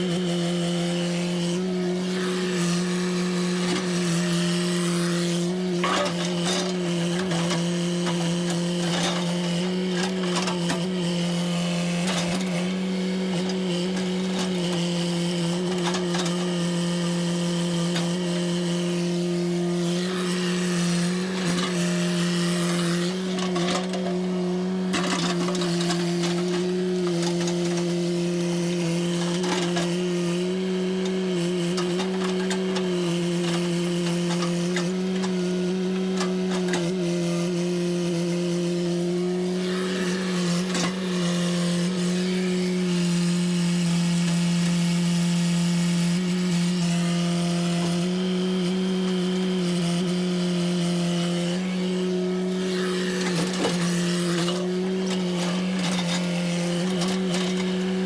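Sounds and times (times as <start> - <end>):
engine running at high speed: 0.0 - 58.0.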